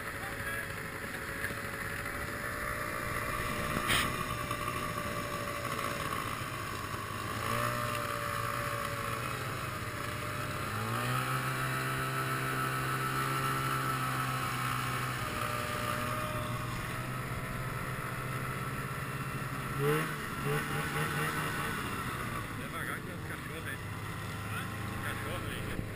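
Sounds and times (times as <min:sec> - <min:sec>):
snowmobile engine revving: 0:00.0 - 0:25.9.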